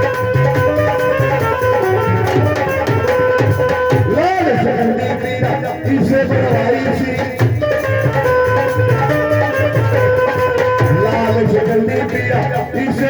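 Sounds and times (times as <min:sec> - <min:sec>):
hand drum rhythm: 0:00.0 - 0:13.0.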